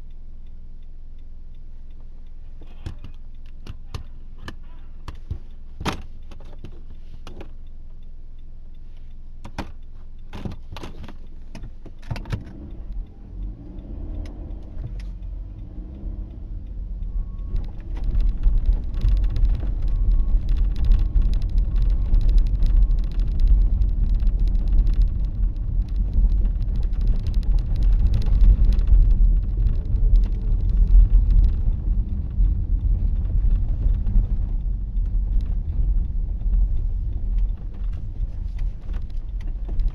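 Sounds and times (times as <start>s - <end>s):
car engine and road rumble: 0.0s - 39.9s
sharp clicks: 0.0s - 39.9s.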